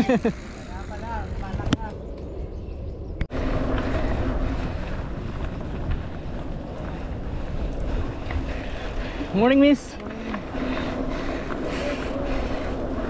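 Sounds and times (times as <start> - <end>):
wind rushing on microphone: 0.5 - 13.0
low rumble: 1.3 - 13.0.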